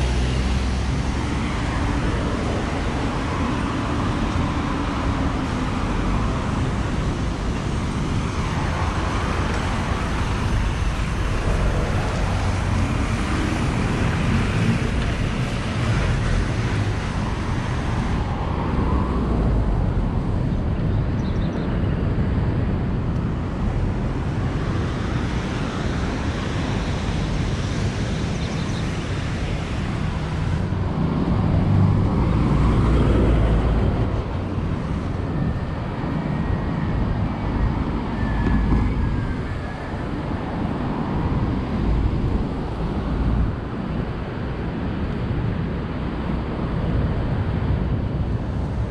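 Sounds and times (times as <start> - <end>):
cars passing: 0.0 - 48.9
low traffic rumble: 0.0 - 48.9.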